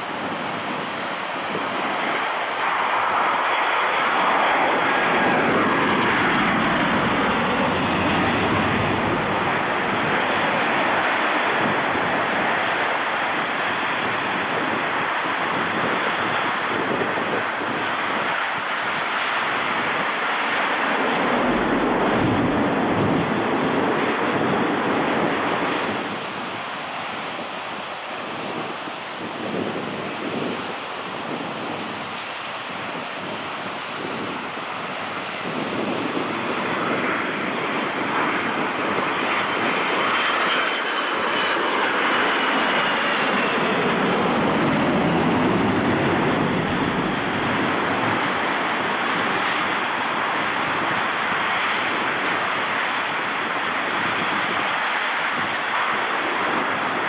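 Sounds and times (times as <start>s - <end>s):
jet engines passing with whine: 0.0s - 57.0s
wind on microphone: 0.0s - 57.0s.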